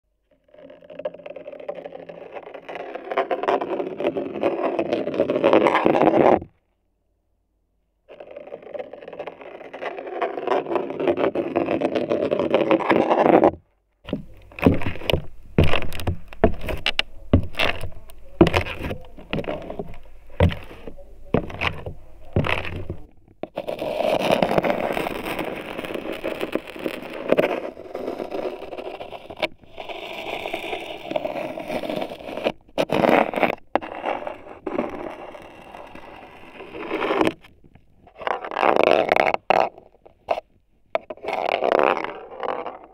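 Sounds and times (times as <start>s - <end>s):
marble rolling on wooden floor: 0.3s - 6.6s, 8.1s - 42.9s.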